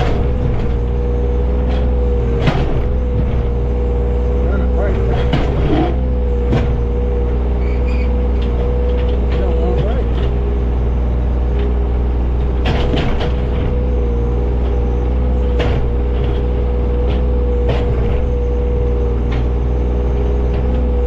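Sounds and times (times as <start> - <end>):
diesel engine running: 0.0 - 21.0
hydraulic whine: 0.0 - 21.0.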